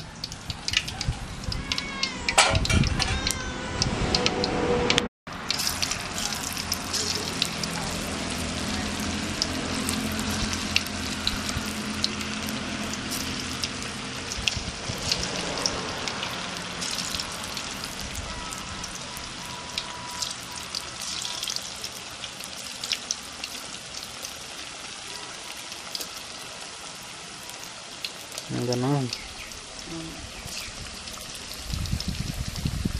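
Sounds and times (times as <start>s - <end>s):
fish deep-frying in hot oil: 0.0s - 4.3s, 5.3s - 32.9s.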